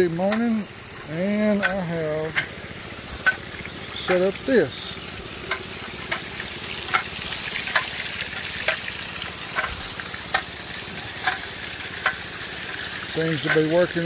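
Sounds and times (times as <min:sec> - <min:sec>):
water rushing through sluice box: 0:00.0 - 0:14.0.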